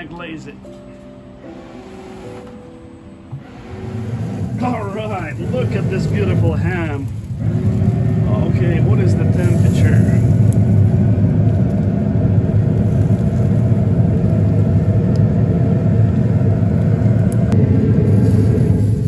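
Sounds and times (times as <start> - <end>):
grill fan humming: 0.0 - 19.0.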